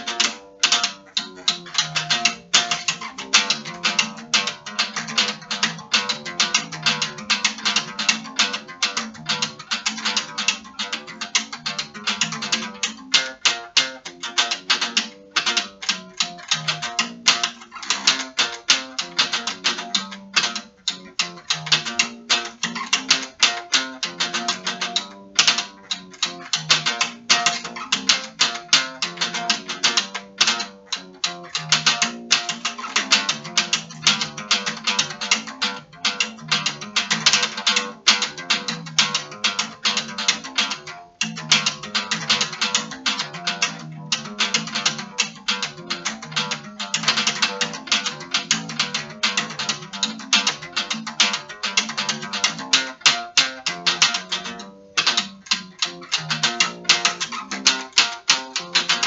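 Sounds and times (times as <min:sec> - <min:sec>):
acoustic bass guitar plucked: 0:00.0 - 0:59.0.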